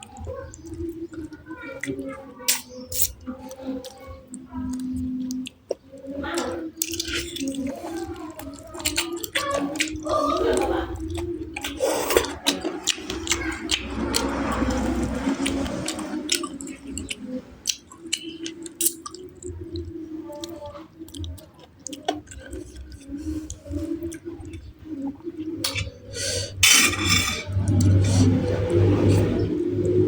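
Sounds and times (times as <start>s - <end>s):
person chewing wetly: 0.0s - 26.8s, 27.5s - 30.0s.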